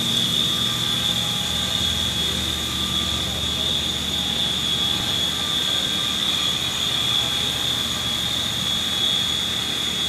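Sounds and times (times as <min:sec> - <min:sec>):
low machine hum: 0:00.0 - 0:10.0
machining center high-pitched whine: 0:00.0 - 0:10.0.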